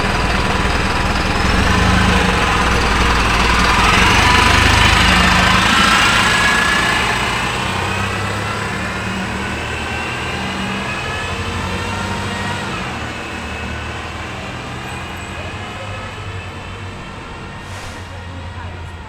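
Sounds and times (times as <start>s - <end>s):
diesel bus engine pulling away: 0.0s - 19.0s.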